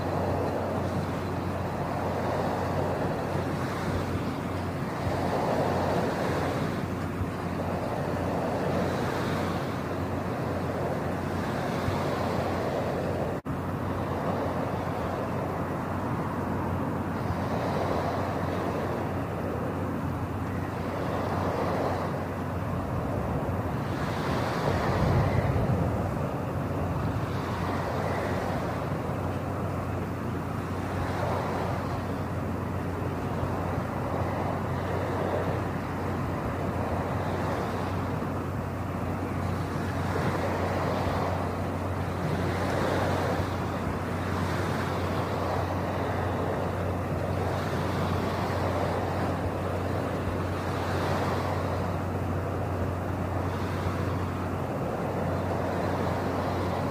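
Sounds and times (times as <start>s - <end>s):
steady rushing noise: 0.0s - 56.9s.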